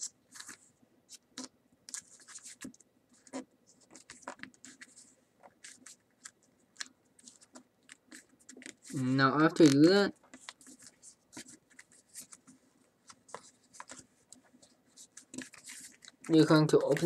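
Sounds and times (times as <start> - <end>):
paper crinkling and rustling: 0.0 - 1.2, 1.9 - 17.0.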